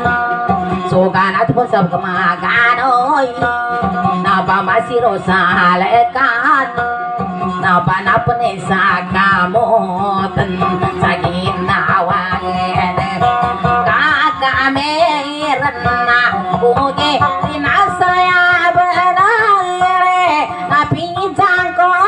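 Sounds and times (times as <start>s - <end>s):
acoustic guitar strumming: 0.0s - 22.0s
woman singing: 0.0s - 22.0s.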